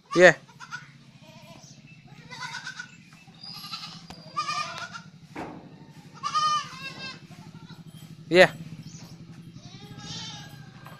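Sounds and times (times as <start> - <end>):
goats bleating: 0.0 - 5.2, 6.0 - 8.1, 9.4 - 10.9
steady low hum: 0.0 - 10.9.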